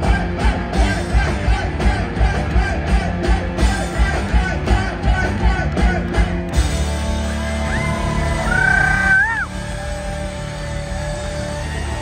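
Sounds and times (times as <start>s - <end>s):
driving drum beat: 0.0s - 12.0s
live rock band playing: 0.0s - 12.0s.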